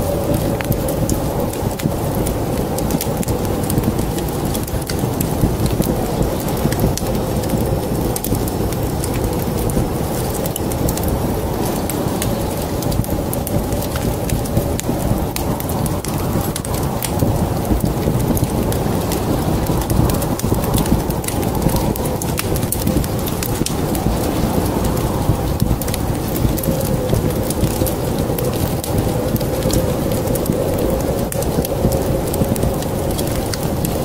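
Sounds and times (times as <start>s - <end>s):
low fire rumble: 0.0s - 34.0s
wood fire crackling: 0.0s - 34.0s.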